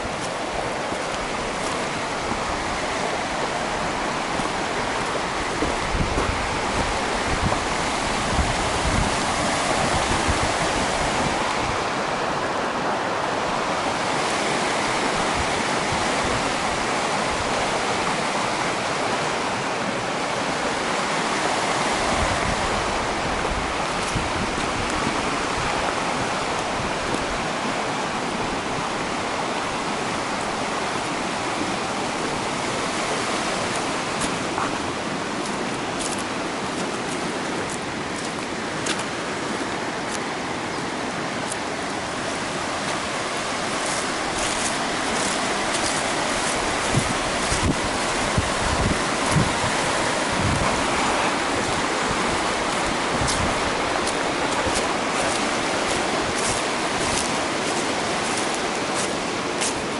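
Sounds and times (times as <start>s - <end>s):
wind buffeting microphone: 0.0s - 12.2s, 20.5s - 59.9s
running water rushing: 0.0s - 59.9s.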